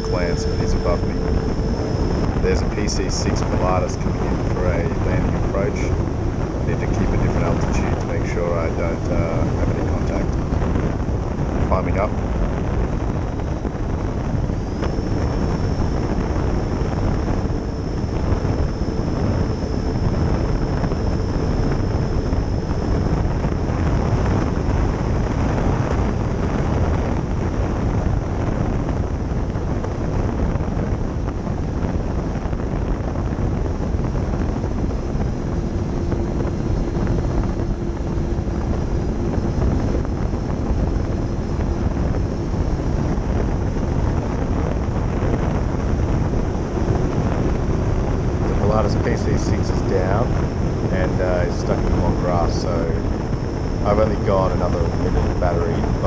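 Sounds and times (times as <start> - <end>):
electric ducted fans whining: 0.0 - 56.0
wind rush over microphone: 0.0 - 56.0.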